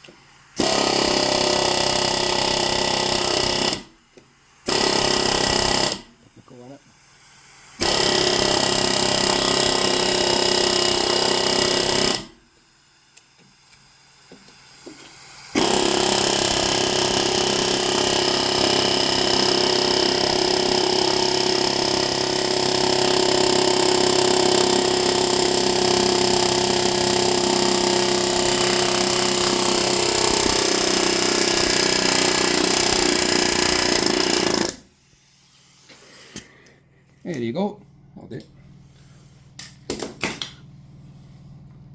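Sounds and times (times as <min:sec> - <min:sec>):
pneumatic air hammer hammering: 0:00.0 - 0:06.2, 0:07.8 - 0:36.6.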